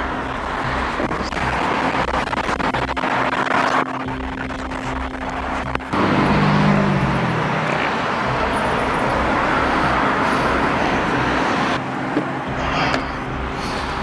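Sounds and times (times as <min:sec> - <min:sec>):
tyre and road noise: 0:00.0 - 0:14.0
vehicle passing: 0:00.0 - 0:14.0.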